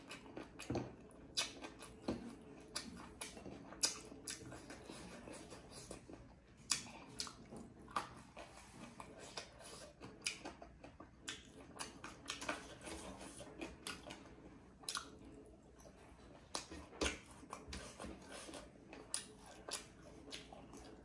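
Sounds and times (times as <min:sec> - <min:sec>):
chewing and wet mouth sounds: 0:00.0 - 0:21.0.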